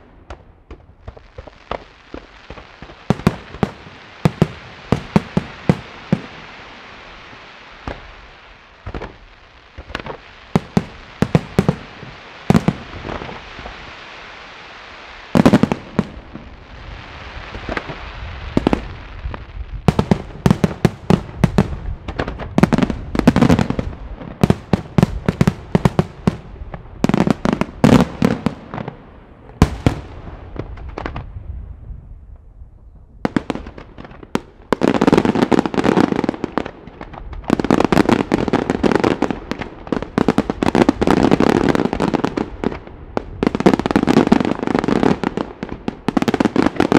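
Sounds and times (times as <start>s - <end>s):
crackling hiss of fireworks: 0.0s - 46.9s.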